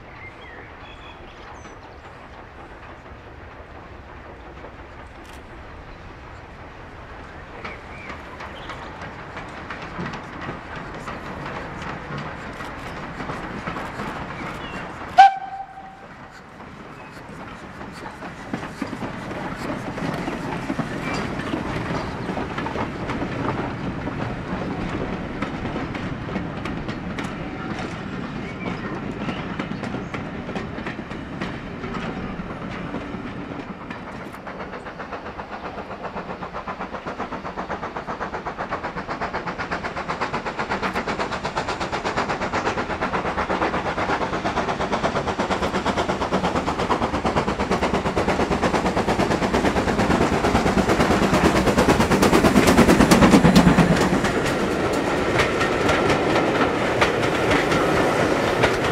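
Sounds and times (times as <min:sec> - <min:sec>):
steam locomotive exhaust beats: 0:00.0 - 0:58.9
train wheels clicking over rail joints: 0:00.2 - 0:58.9.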